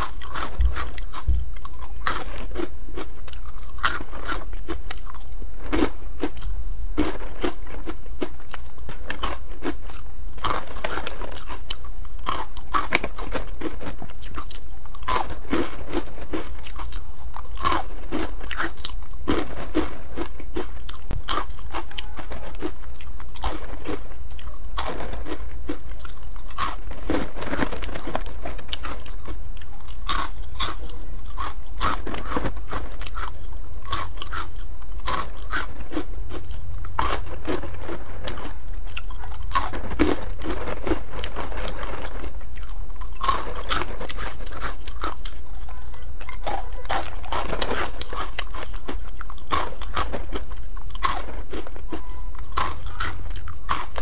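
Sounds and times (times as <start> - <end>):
person chewing crunchy pasta: 0.0 - 54.0.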